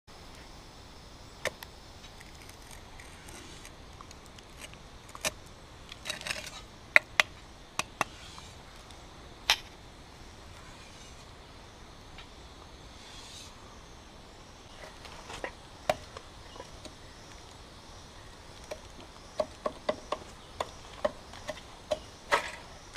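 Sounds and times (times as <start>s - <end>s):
faint steady hiss: 0.1s - 22.9s.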